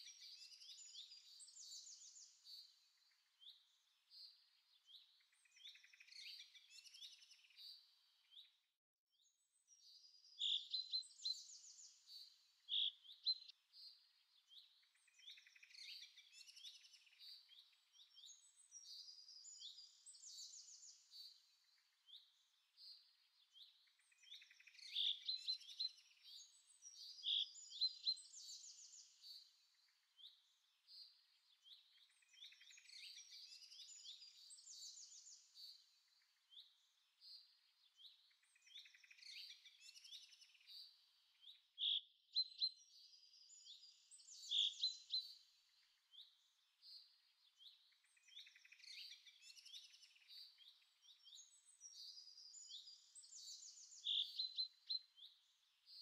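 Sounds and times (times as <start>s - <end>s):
birds chirping and trilling: 0.0s - 8.6s, 9.4s - 55.7s.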